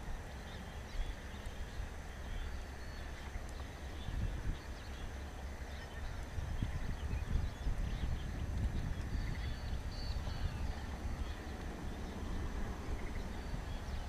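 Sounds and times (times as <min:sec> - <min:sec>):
birds chirping faintly: 0:00.0 - 0:14.0
wind on microphone: 0:00.0 - 0:14.0.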